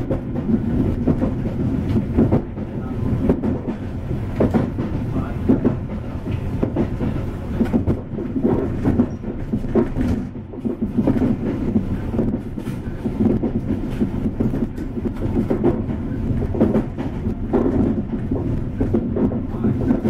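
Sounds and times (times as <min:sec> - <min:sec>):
low rumble of wheels on rail: 0:00.0 - 0:20.0.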